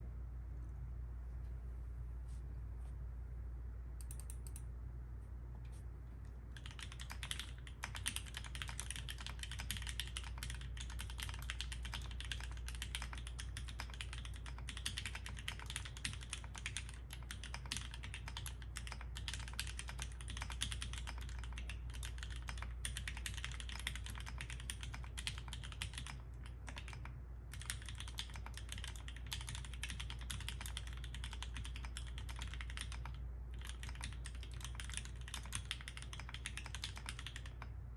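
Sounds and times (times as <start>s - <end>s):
steady low hum: 0.0s - 37.9s
mechanical keyboard typing: 4.0s - 4.6s, 6.6s - 37.7s.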